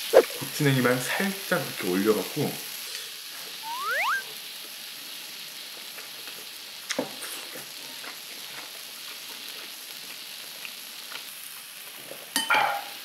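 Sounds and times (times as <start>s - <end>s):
mushrooms sizzling on griddle pan: 0.5s - 3.6s, 4.4s - 13.0s.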